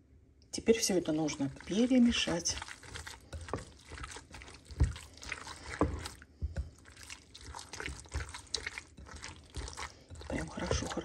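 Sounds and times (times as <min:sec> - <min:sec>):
hand squelching minced meat: 0:00.8 - 0:11.0.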